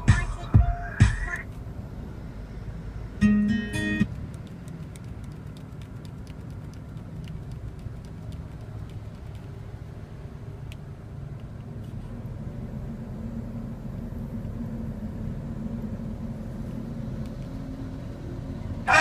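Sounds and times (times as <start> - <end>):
car engine rumbling from inside: 0.0 - 19.0.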